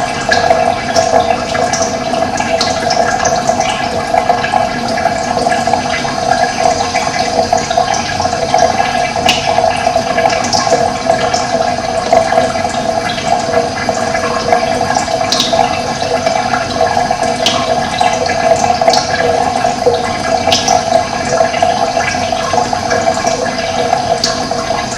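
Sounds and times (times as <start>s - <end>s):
running water flowing: 0.0s - 24.9s.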